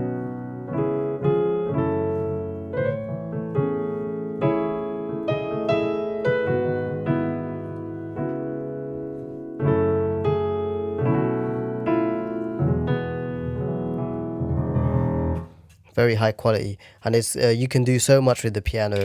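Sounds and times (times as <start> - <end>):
piano playing slow chords: 0.0 - 15.6.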